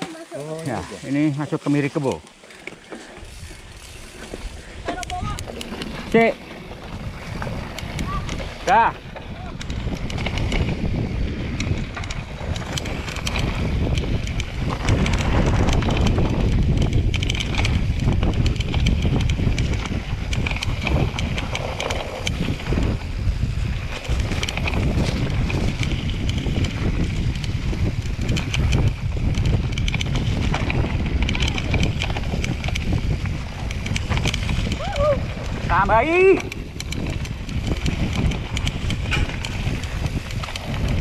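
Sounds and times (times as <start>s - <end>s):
bike clicks and rattles: 0.0s - 41.0s
wind buffeting microphone: 2.8s - 41.0s.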